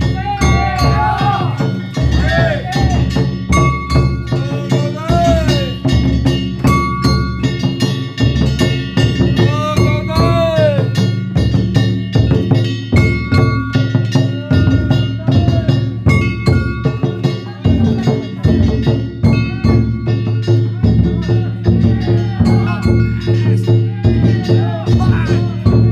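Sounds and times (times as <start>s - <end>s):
metal hand gongs ringing: 0.0s - 25.9s
taiko drum beating: 0.0s - 25.9s.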